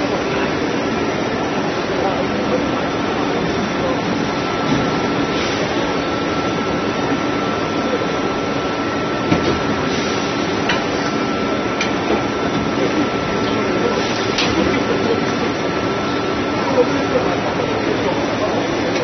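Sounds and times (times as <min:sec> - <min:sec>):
exhibition hall din: 0:00.0 - 0:19.0.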